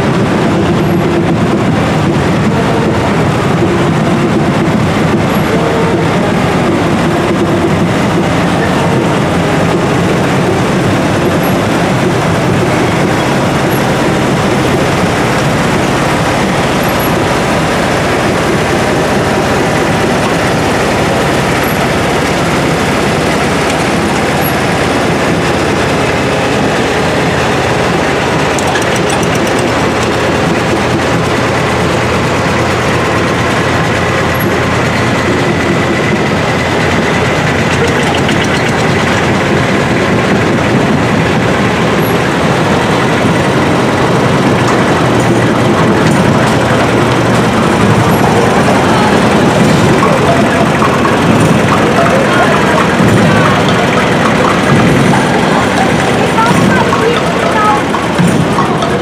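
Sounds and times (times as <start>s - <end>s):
construction machine engines running: 0.0s - 59.0s.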